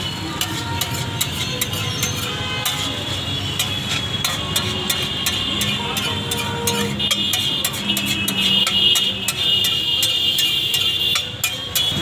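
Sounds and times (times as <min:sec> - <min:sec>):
metal spatula scraping iron griddle: 0:00.0 - 0:12.0
street traffic rumble: 0:00.0 - 0:12.0.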